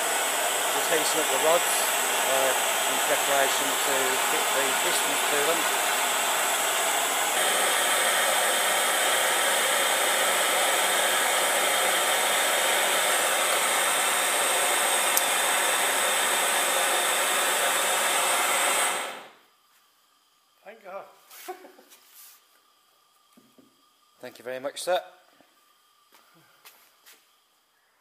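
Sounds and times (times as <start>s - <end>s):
gas torch hissing: 0.0s - 27.8s.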